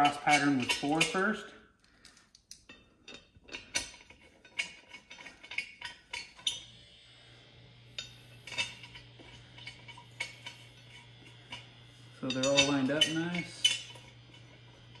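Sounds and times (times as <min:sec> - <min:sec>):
metal bolts clinking: 0:00.0 - 0:06.7, 0:07.9 - 0:15.0.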